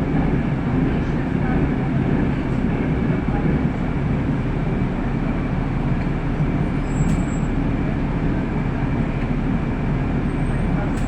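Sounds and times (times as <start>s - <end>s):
bus engine and road noise: 0.0s - 11.0s.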